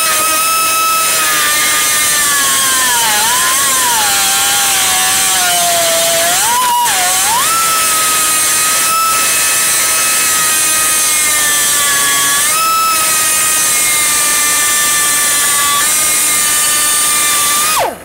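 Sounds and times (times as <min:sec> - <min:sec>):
air die grinder whining: 0:00.0 - 0:18.0.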